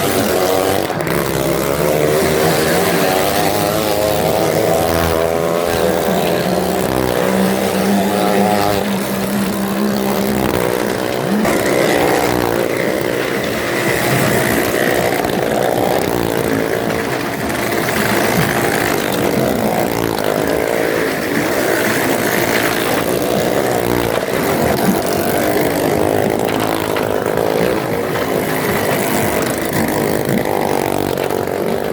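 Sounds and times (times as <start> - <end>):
motorcycle engines running hard: 0.0 - 31.9.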